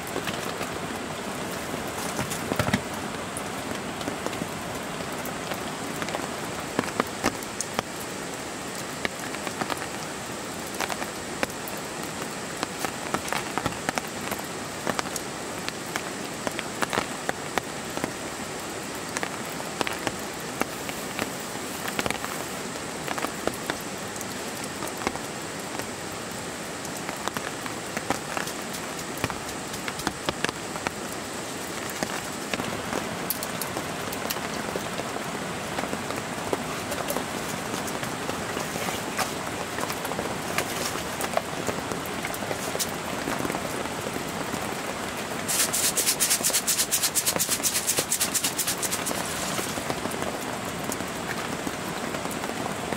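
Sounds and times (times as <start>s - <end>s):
rain falling: 0.0s - 52.9s
raindrops ticking on surfaces: 0.0s - 52.9s.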